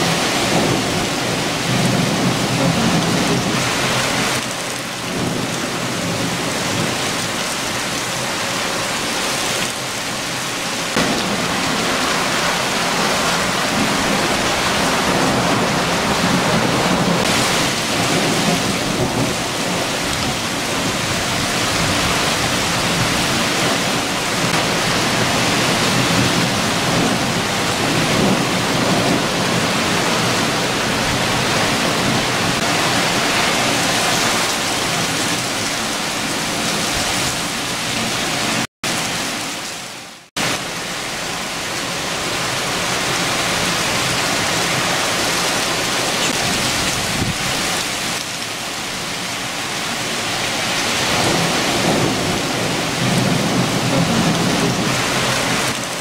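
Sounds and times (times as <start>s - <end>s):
heavy rain on foliage: 0.0s - 56.0s.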